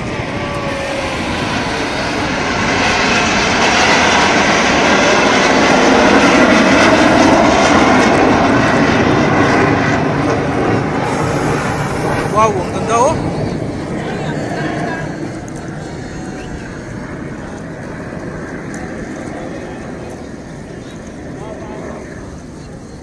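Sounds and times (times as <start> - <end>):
jets flying past: 0.0 - 22.7.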